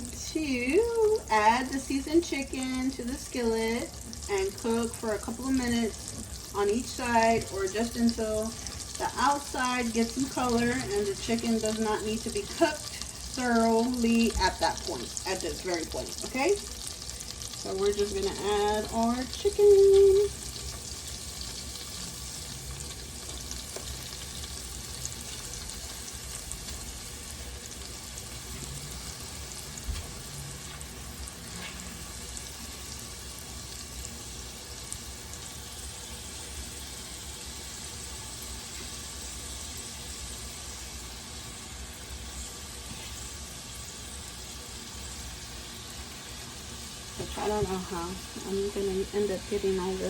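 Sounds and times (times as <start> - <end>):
chicken sizzling in oil: 0.0 - 50.0.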